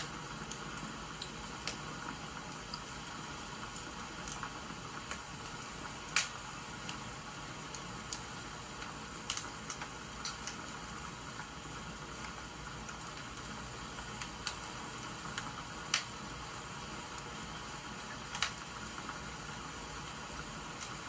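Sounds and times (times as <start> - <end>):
rain hiss: 0.0 - 21.0
wood fire crackling and popping: 0.0 - 21.0.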